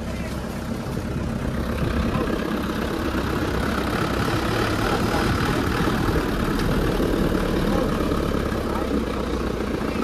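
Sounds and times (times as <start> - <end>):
road noise: 0.0 - 10.0
truck engine running: 0.0 - 10.0.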